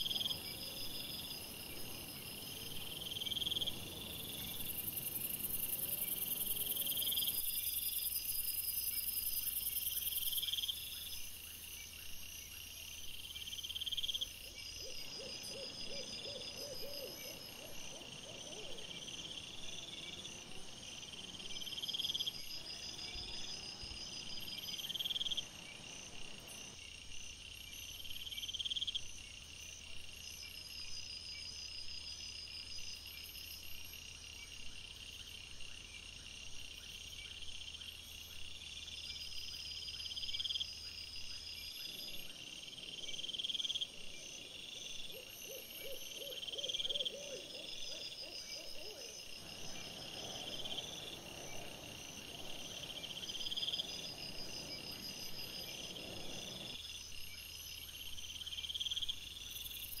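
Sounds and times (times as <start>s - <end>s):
crickets chirping: 0.0s - 60.0s.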